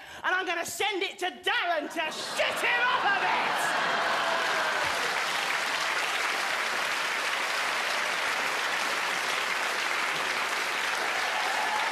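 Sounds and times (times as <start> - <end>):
audience applauding: 2.3 - 11.9.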